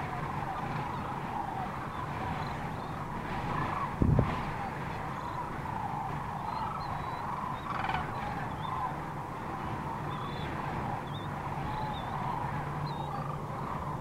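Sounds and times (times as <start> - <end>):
cranes calling: 0.0 - 14.0.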